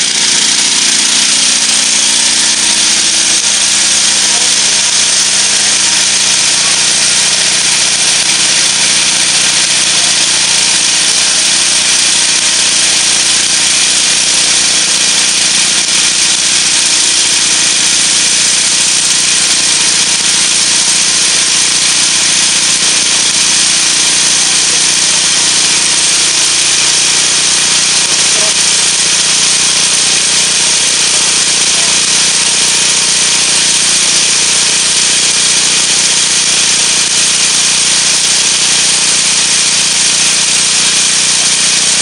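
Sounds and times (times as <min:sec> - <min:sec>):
block machine motor running: 0:00.0 - 0:42.0.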